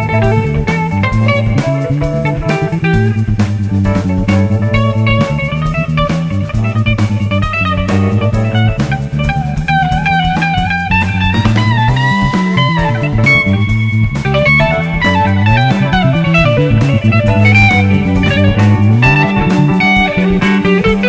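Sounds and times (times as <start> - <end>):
bass: 0.0 - 21.0
drum kit: 0.0 - 21.0
electric guitar: 0.0 - 21.0.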